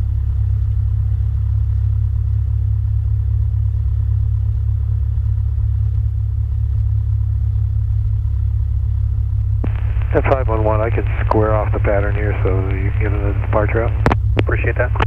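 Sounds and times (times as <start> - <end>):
plane engine idling: 0.0 - 15.0.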